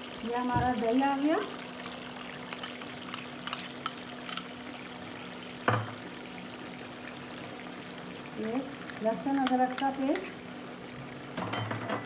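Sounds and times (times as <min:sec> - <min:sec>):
chicken sizzling in hot oil: 0:00.0 - 0:11.6.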